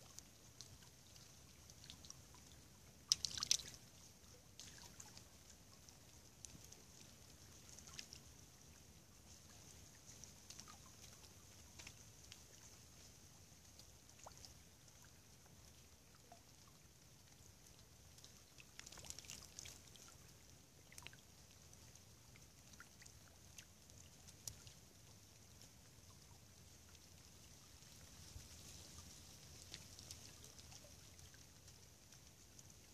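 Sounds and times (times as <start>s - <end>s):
river trickling: 0.0s - 32.9s
soft ticks and drips: 0.0s - 32.9s.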